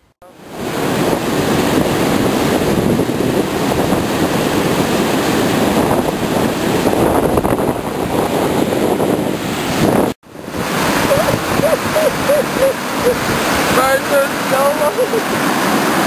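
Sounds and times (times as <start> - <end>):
water rushing over rocks: 0.2 - 16.0.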